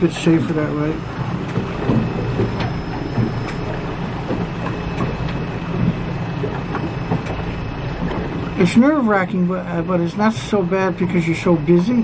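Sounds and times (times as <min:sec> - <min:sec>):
boat motor hum: 0:00.0 - 0:12.0
water noise: 0:00.0 - 0:12.0
wind: 0:00.0 - 0:12.0.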